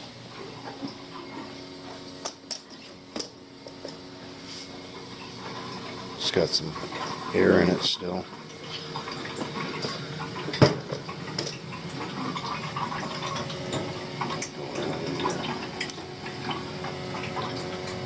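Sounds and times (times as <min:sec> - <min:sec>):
water gurgling in pipes: 0:00.0 - 0:18.0.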